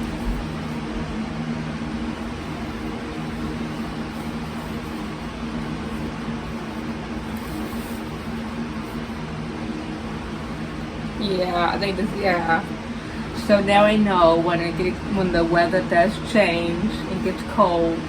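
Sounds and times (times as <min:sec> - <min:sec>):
appliance motor hum and hiss: 0:00.0 - 0:18.0.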